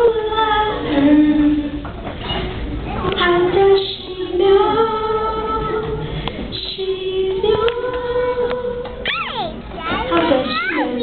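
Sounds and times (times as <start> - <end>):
girl singing into microphone: 0.0 - 11.0.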